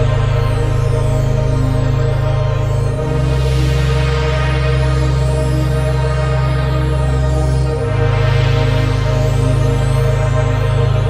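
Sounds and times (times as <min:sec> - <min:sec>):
deep held bass: 0:00.0 - 0:11.0
sustained synthesizer tones: 0:00.0 - 0:11.0.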